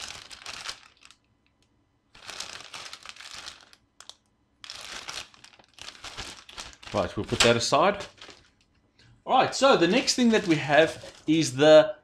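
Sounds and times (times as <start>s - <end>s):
plastic bag crinkling: 0.0s - 1.3s, 2.1s - 8.8s, 9.8s - 11.6s.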